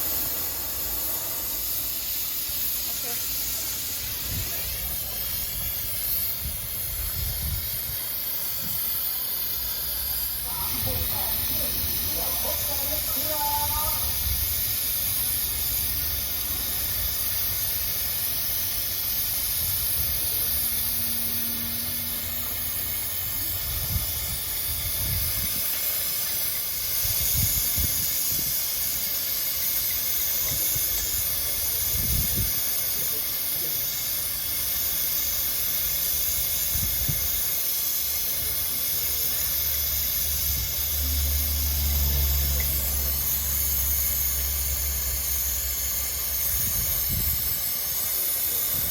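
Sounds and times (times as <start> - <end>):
welding torch flame hissing: 0.0 - 48.9.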